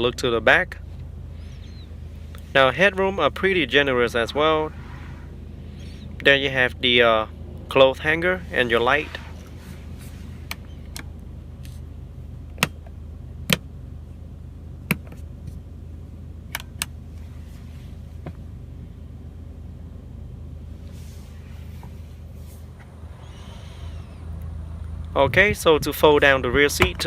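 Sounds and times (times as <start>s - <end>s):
car cabin low hum: 0.0s - 27.0s.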